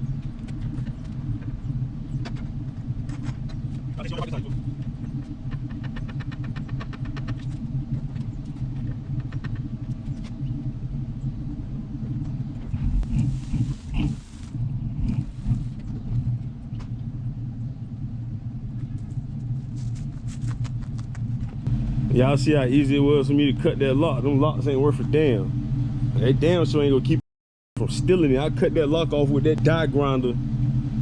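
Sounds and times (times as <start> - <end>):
engine running at low revs: 0.0 - 27.2, 27.8 - 31.0.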